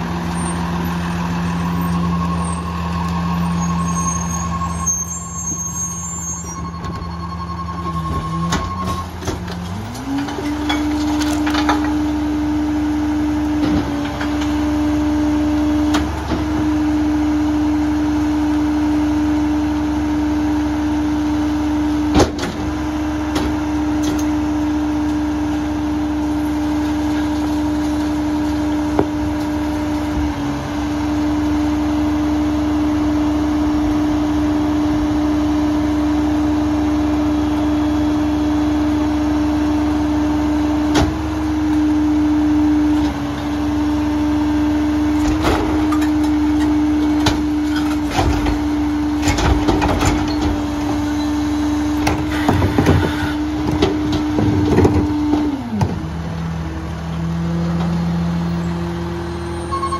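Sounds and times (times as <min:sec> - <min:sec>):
hydraulic whine: 0:00.0 - 0:59.9.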